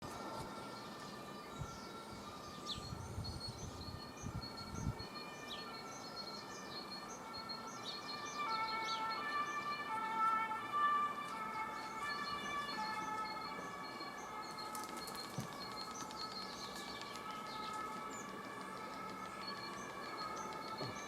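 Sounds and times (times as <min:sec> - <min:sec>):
two-tone emergency siren: 0:00.0 - 0:21.0.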